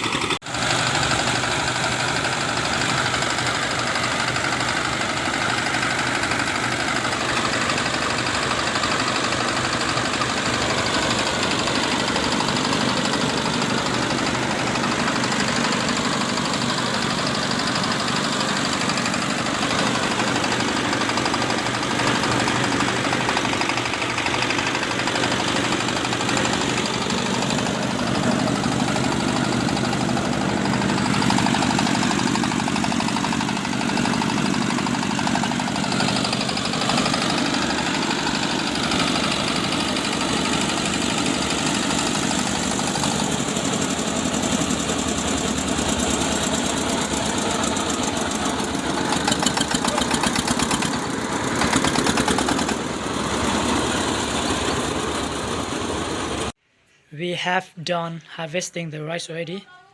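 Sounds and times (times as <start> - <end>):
threshing machine running: 0.0 - 56.6.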